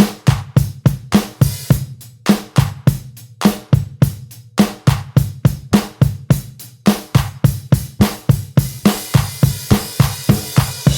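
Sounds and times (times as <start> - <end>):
fast drum-kit beat: 0.0 - 10.9.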